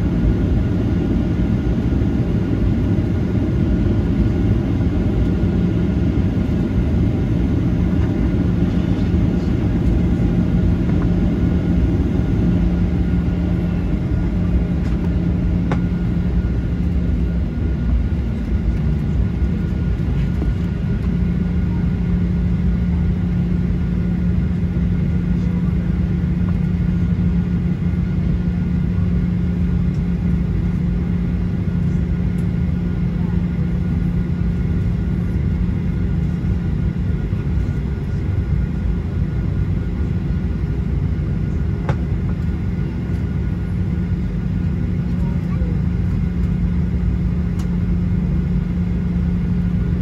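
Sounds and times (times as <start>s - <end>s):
aircraft cabin low rumble: 0.0s - 50.0s
steady hum: 0.0s - 50.0s.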